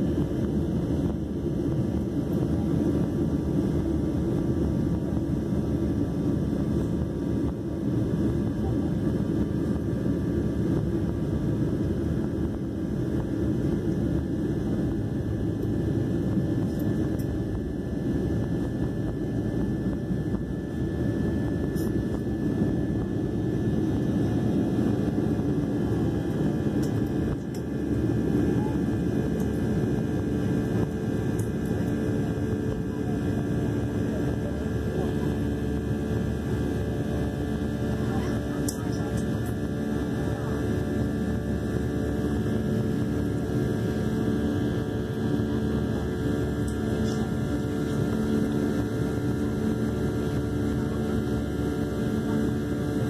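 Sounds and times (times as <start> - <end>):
faint engine whine: 0.0 - 53.0
jet engine rumble in cabin: 0.0 - 53.0.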